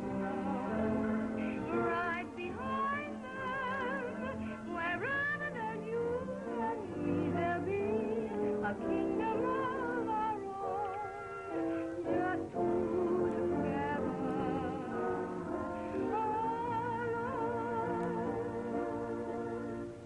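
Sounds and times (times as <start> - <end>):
old film soundtrack music: 0.0 - 20.0.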